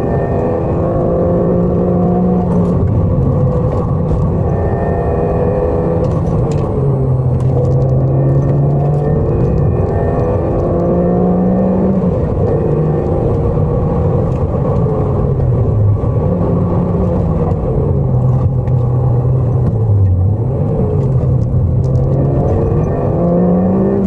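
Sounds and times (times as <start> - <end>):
car engine revving from cabin: 0.0 - 24.0.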